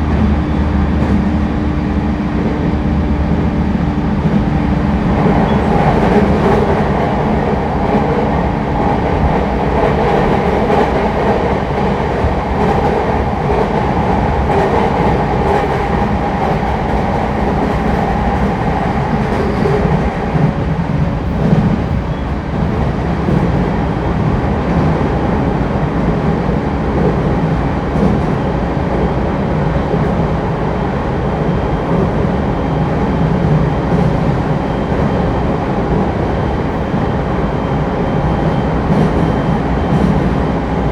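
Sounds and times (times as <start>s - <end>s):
train hum: 0.0s - 40.9s
train wheels rumbling on rail: 0.0s - 40.9s.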